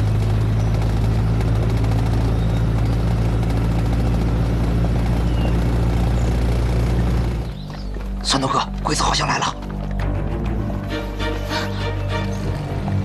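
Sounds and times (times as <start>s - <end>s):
truck engines droning: 0.0s - 13.0s.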